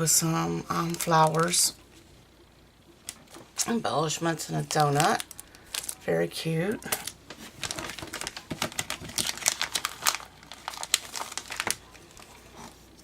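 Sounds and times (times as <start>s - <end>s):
plastic baggies crinkling: 0.6s - 1.8s, 3.0s - 12.8s.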